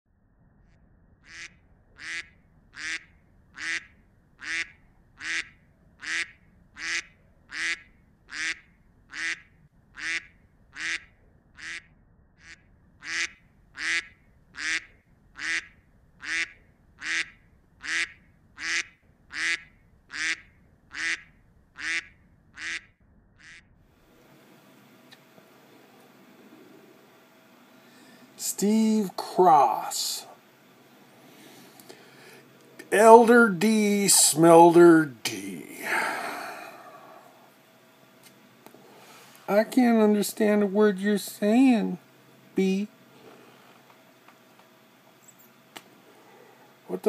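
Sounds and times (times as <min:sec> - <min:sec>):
faint low hum: 0:00.1 - 0:47.0.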